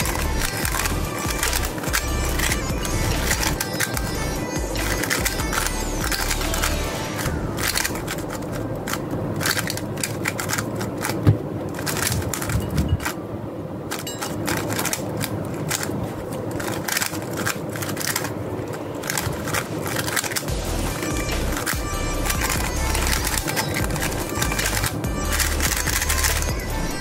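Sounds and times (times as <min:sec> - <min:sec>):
puzzle cube clicking as turned: 0:00.0 - 0:04.1, 0:04.8 - 0:13.2, 0:13.9 - 0:26.6.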